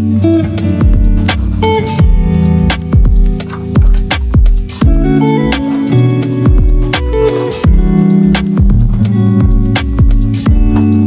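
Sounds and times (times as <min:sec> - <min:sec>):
deep bass: 0:00.0 - 0:11.0
plucked guitar: 0:00.0 - 0:11.0
steady drum beat: 0:00.3 - 0:11.0.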